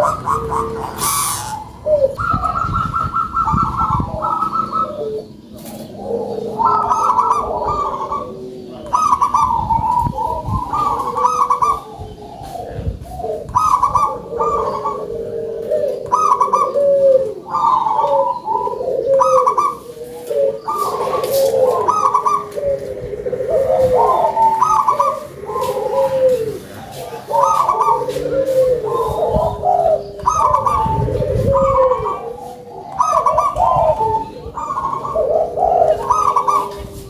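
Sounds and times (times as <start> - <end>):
doves cooing: 0.0 - 37.0.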